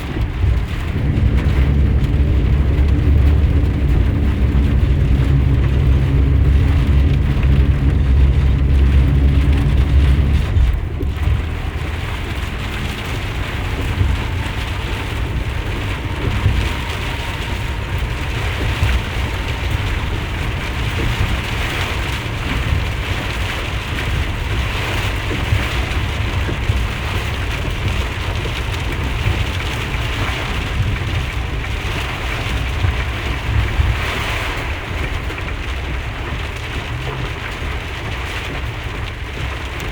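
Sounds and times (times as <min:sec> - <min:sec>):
engine and road drone: 0:00.0 - 0:39.9
heavy rain drumming on van: 0:00.0 - 0:39.9.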